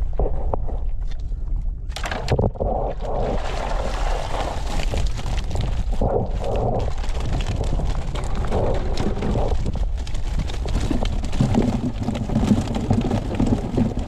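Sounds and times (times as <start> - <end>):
wind buffeting microphone: 2.5 - 14.0.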